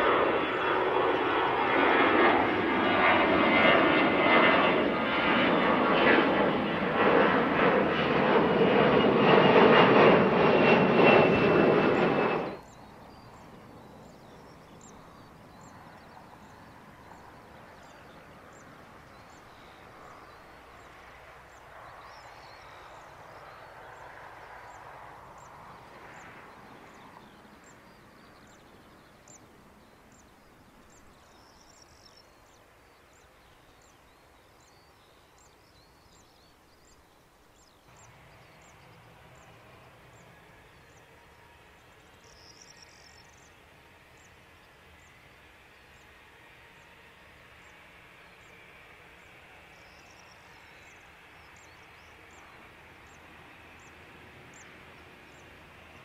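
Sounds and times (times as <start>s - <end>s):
jet engine roar: 0.0s - 31.9s, 37.9s - 56.0s
faint high engine whine: 0.0s - 56.0s
jet taxiing engine sound: 0.0s - 56.0s.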